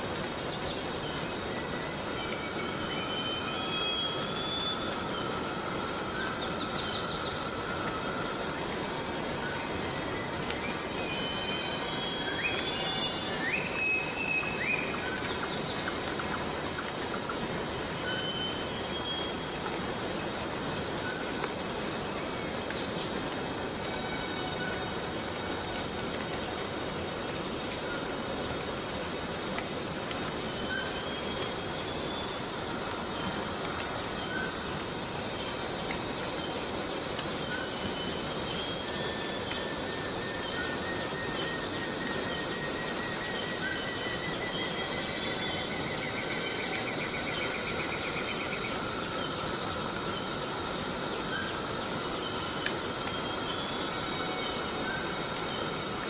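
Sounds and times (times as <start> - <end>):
insects chirring: 0.0 - 56.0
short insect chirps: 0.0 - 56.0.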